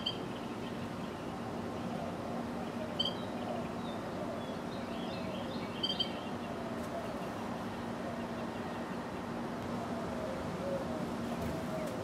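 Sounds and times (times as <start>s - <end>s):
wrens chirping: 0.0s - 12.0s.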